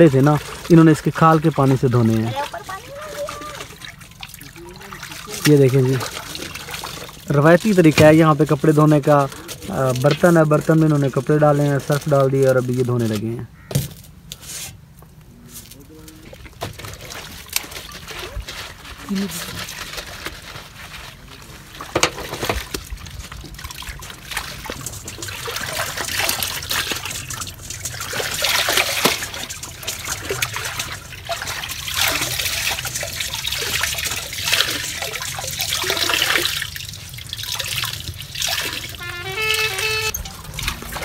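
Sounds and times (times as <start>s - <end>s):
sharp water splashes: 0.0s - 13.3s, 16.4s - 41.0s
water trickling and splashing: 0.0s - 14.2s, 15.6s - 41.0s.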